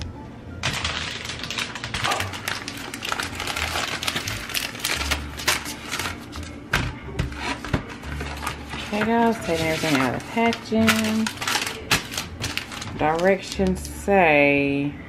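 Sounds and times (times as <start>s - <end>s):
plastic wrapper crinkling: 0.6s - 6.6s, 7.3s - 14.1s
paper bag and box rustling: 0.6s - 14.2s.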